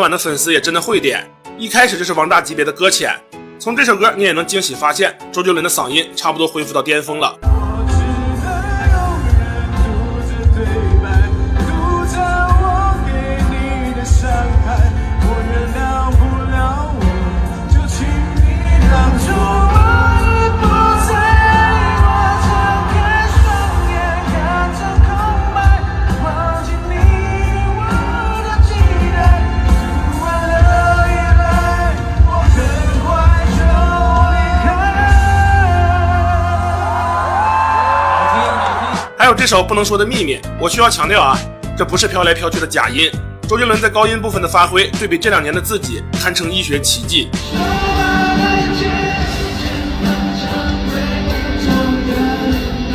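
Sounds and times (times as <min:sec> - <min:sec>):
band accompaniment with heavy bass: 0:07.4 - 0:52.9
man singing a pop ballad: 0:07.4 - 0:52.9.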